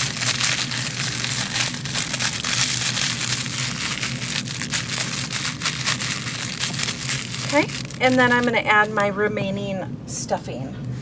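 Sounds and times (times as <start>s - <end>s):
crinkle fabric crackling: 0.0s - 8.9s.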